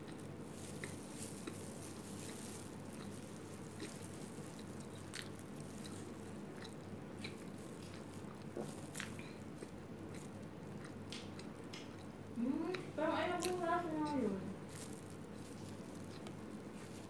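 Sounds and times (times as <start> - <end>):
plastic gloves and wrapper rustling: 0.0 - 10.6, 13.0 - 17.0
quiet chewing: 0.0 - 17.0.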